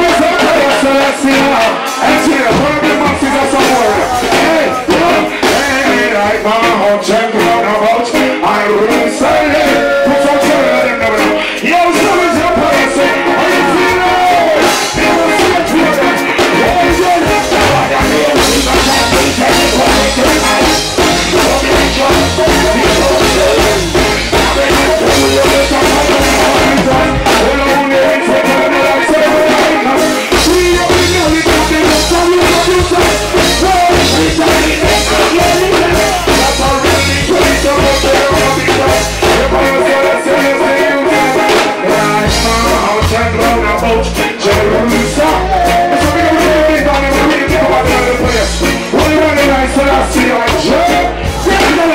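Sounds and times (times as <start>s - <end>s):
heavy bass line: 0.0s - 51.9s
man singing: 0.0s - 51.9s
reggae band playing: 0.0s - 51.9s.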